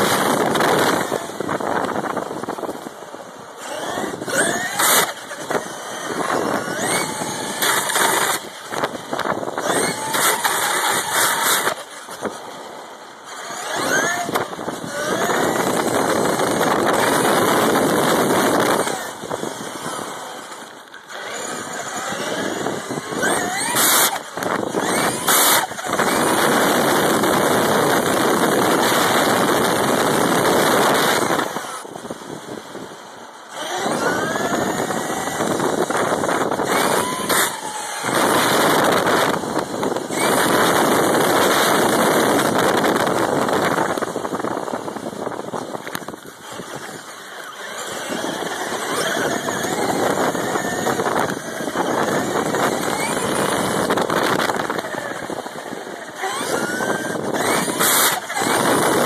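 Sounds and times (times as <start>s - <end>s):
toy truck motor whining: 0.0s - 59.0s.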